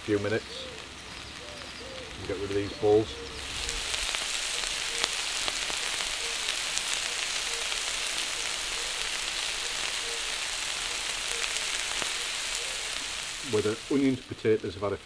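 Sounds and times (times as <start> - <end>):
onions and potatoes frying in oil: 0.0 - 15.0.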